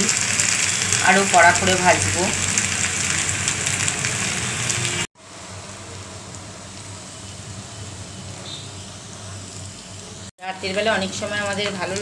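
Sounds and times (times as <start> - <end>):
potato sticks sizzling in oil: 0.0 - 12.0.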